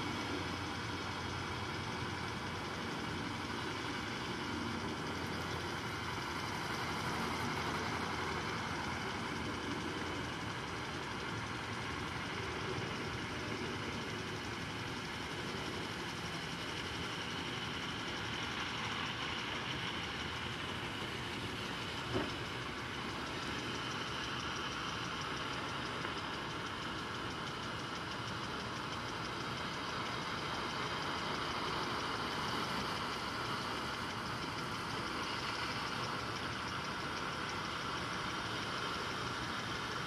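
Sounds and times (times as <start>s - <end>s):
sprinklers hissing: 0.0s - 40.0s.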